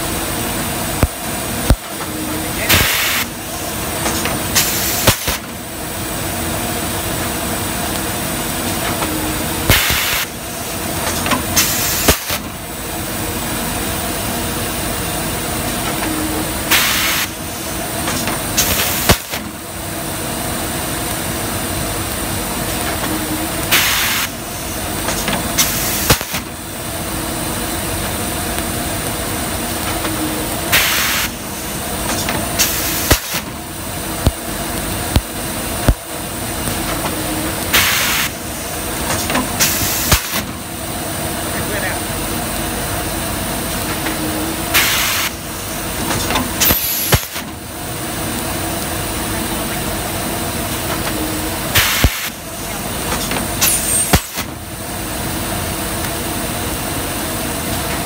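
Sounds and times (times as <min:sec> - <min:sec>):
machine humming: 0:00.0 - 0:58.0.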